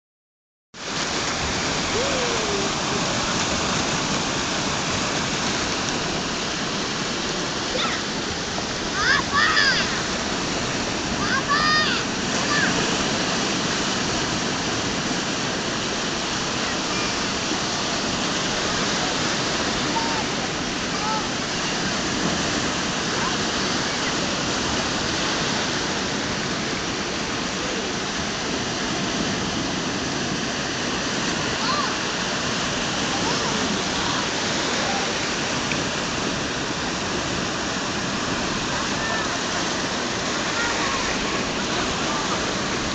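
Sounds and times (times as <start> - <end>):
waves washing over sand and rocks: 0.8 - 42.9.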